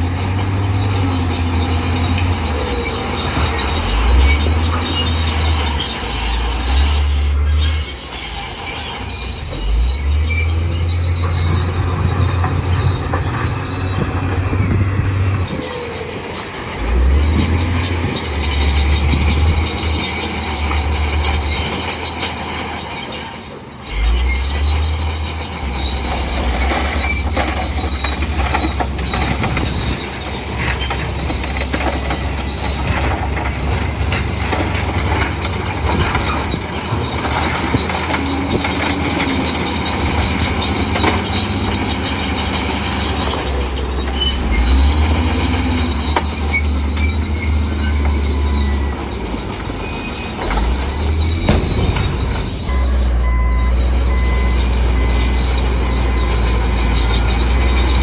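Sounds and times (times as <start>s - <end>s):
bulldozer diesel engine rumble: 0.0s - 58.0s
steel tracks squealing and clanking: 0.0s - 58.0s.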